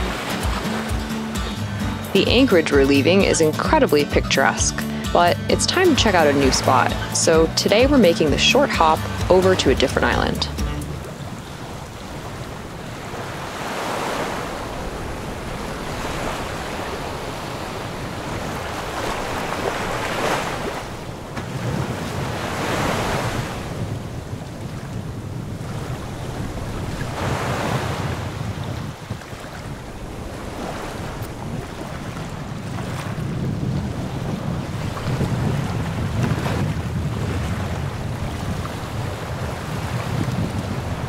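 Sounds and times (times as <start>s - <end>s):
water washing against boat hull: 0.0s - 1.4s, 5.7s - 41.0s
wind buffeting microphone: 4.5s - 41.0s.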